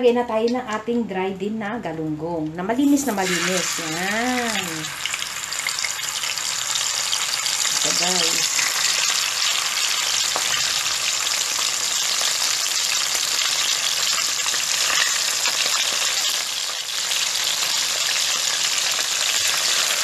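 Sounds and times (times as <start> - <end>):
fish frying in oil: 2.9 - 20.0.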